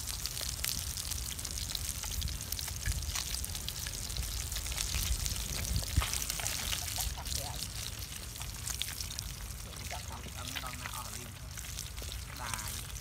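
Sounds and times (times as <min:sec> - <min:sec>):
fish frying in oil: 0:00.0 - 0:13.0.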